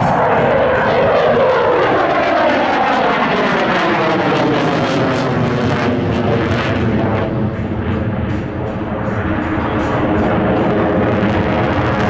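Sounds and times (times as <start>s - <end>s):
fighter jet flying past: 0.0s - 12.0s.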